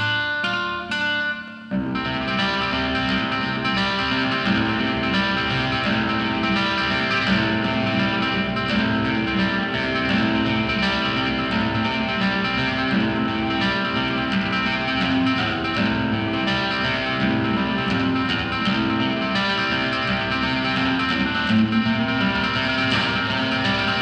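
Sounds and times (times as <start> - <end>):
fingerpicked classical guitar: 0.0 - 24.0.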